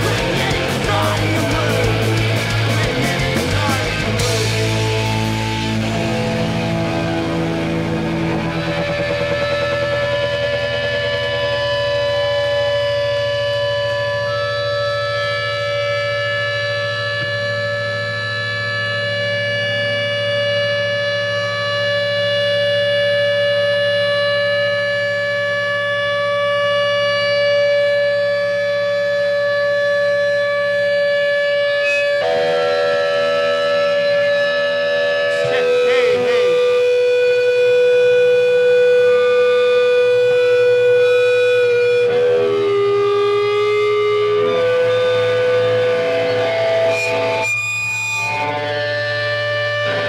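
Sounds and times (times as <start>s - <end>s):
guitar amp feedback tones: 0.0s - 50.0s
low amp hum: 0.0s - 50.0s.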